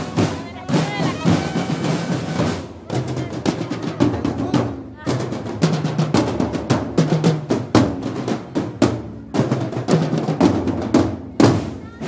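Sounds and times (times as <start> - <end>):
marching drums playing cadence: 0.0 - 12.0.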